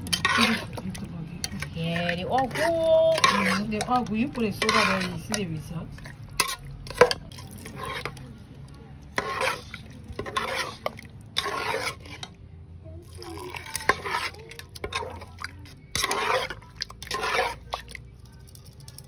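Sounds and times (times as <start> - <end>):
spoon stirring thick soup: 0.0 - 19.0.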